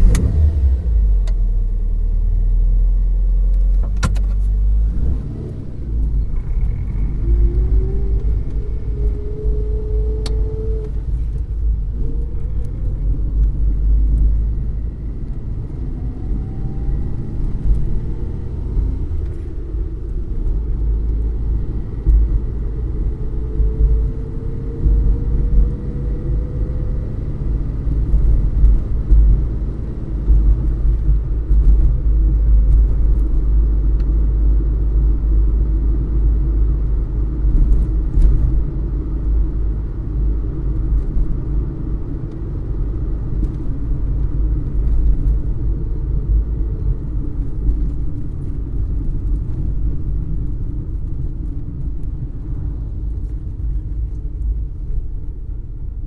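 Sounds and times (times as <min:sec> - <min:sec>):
car engine rumble from inside cabin: 0:00.0 - 0:56.0
faint engine hum: 0:00.0 - 0:56.0.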